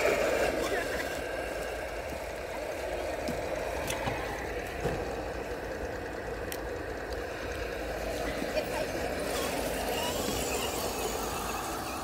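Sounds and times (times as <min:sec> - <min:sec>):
electric motor and gearbox whirring: 0:00.0 - 0:12.0.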